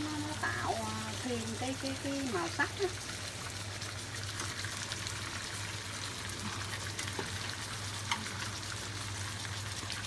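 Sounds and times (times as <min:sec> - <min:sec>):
food sizzling in a hot pan: 0:00.0 - 0:10.0.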